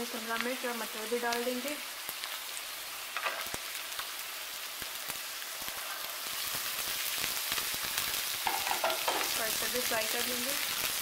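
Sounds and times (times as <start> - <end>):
sharp oil crackles: 0.0 - 11.0
vegetables sizzling in hot oil: 0.0 - 11.0.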